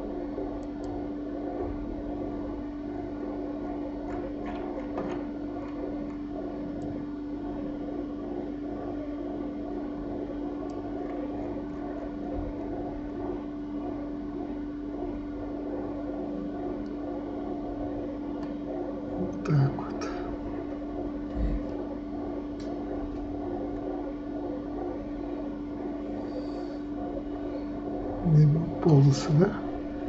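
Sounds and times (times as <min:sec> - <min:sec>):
computer fan whirring: 0:00.0 - 0:30.0.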